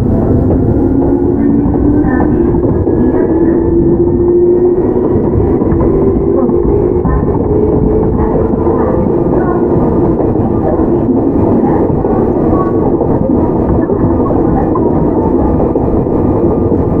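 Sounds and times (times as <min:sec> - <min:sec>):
traction motor whine: 0:00.0 - 0:17.0
train wheels rumbling: 0:00.0 - 0:17.0.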